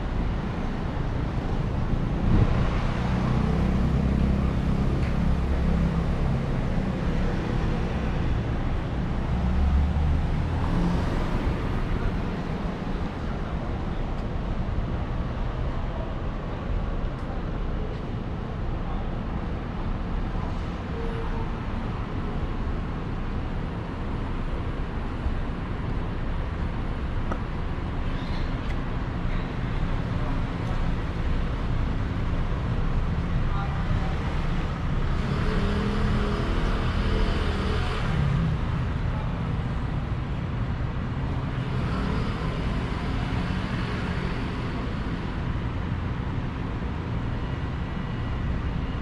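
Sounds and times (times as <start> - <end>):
passing cars: 0.0 - 49.0
vehicle engine running nearby: 0.0 - 49.0.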